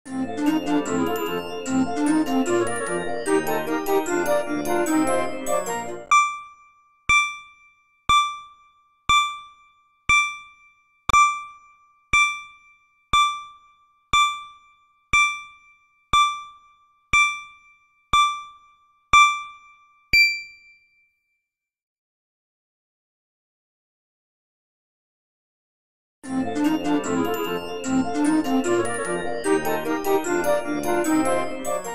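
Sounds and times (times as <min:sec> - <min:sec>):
countdown timer electronic dings: 0:00.4 - 0:20.9, 0:26.5 - 0:31.9.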